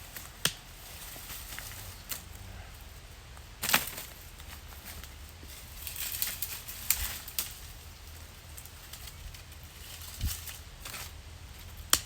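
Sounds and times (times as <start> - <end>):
rustling: 0.0 - 12.0.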